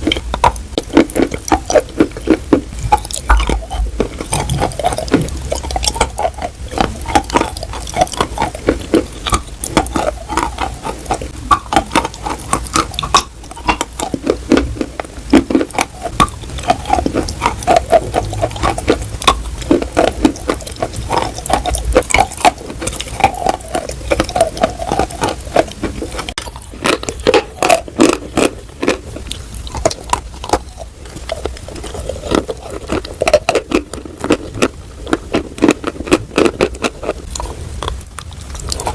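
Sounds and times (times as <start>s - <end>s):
chalk crunching while chewing: 0.0s - 38.9s
mouth sounds: 0.0s - 38.9s.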